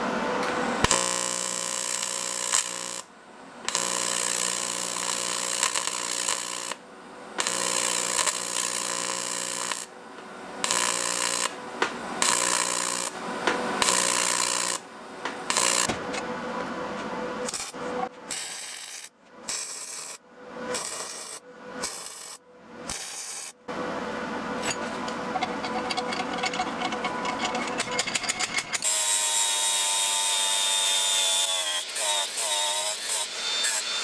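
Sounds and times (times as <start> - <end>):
welding arc buzzing hiss: 0.0 - 16.2, 17.4 - 23.6, 28.8 - 34.0.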